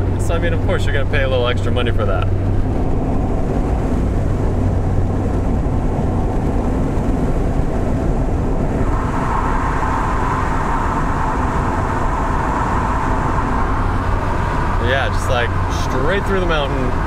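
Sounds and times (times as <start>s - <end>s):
car engine hum: 0.0s - 17.0s
higher hum in tunnel: 0.0s - 17.0s
tyre and road noise: 0.0s - 17.0s.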